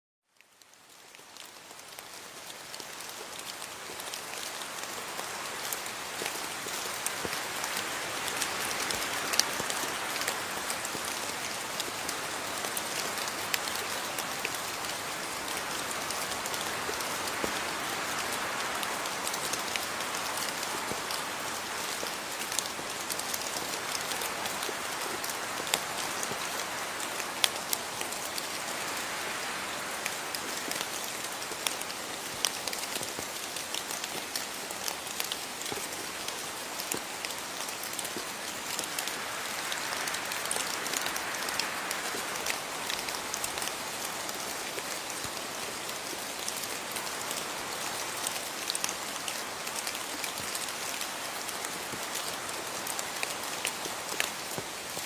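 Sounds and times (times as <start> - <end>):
steady rain hiss: 0.3 - 55.0.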